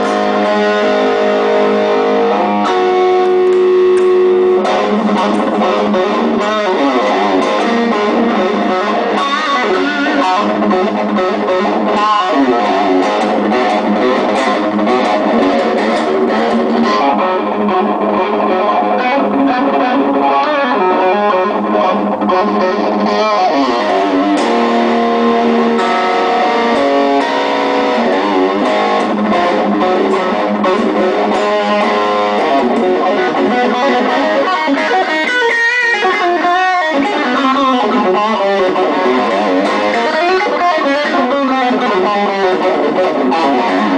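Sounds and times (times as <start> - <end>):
electric guitar playing: 0.0 - 43.9.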